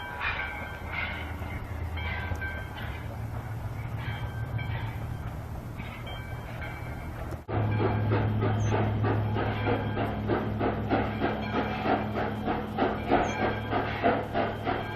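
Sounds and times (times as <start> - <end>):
high-pitched train squeals: 0.0 - 14.9
train rumbling: 0.0 - 14.9.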